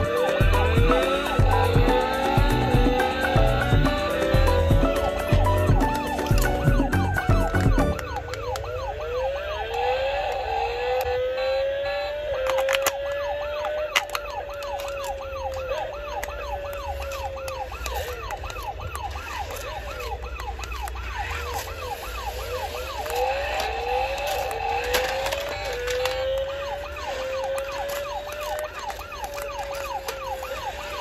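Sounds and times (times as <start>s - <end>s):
toy electronic siren wailing: 0.0s - 31.0s.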